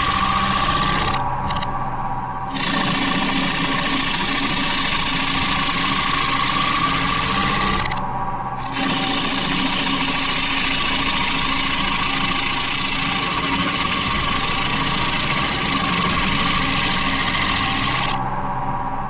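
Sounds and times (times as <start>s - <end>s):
lathe motor hum: 0.0s - 19.0s.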